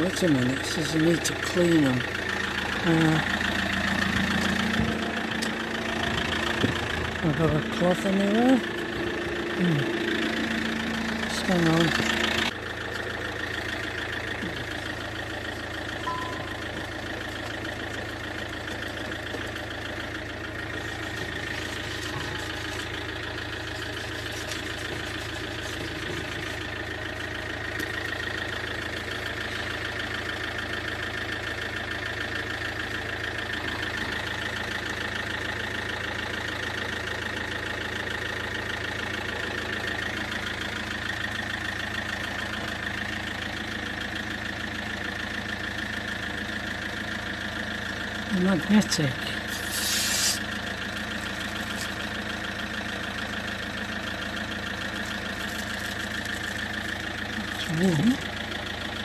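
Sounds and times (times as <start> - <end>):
engine idling hum: 0.0 - 59.0.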